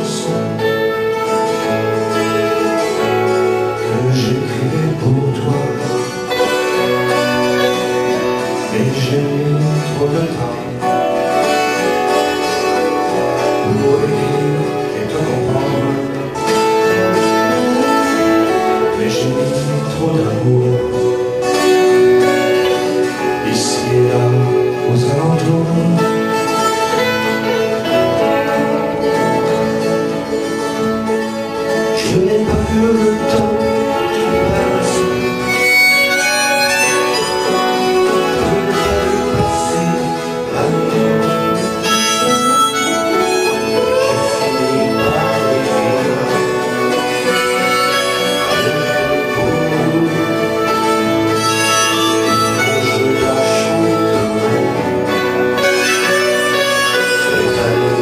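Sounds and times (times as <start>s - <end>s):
acoustic guitar accompaniment: 0.0s - 58.0s
harmonica melody: 0.0s - 58.0s.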